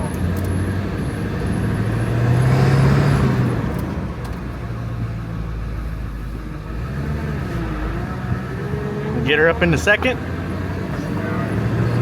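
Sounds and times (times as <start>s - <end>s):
diesel truck engine accelerating: 0.0s - 12.0s.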